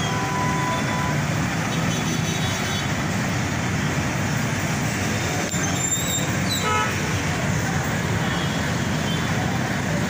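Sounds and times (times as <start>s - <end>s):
traffic engines idling: 0.0s - 10.0s.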